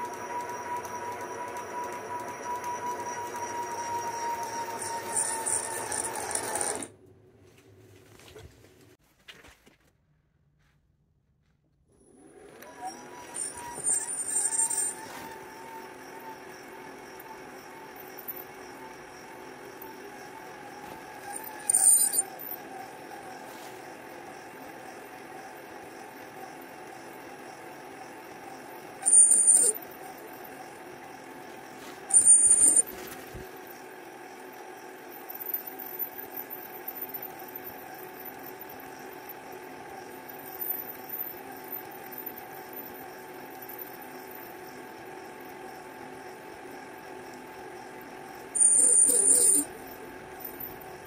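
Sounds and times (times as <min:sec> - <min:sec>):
milling machine hum: 0:00.0 - 0:08.0, 0:12.0 - 0:51.0.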